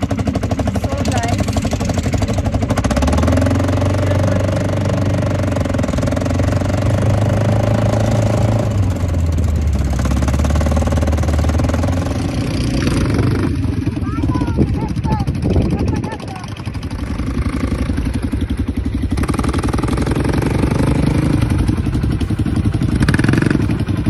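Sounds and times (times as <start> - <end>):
quad bike engine running: 0.0 - 24.0.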